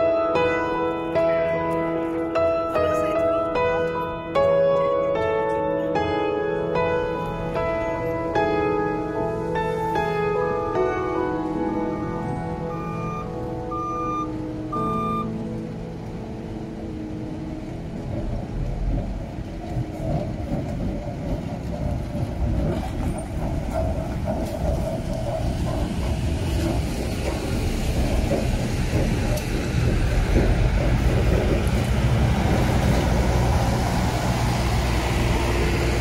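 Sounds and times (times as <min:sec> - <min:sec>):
locomotive engine drone: 0:00.0 - 0:36.0
train cars rumbling on rails: 0:00.0 - 0:36.0.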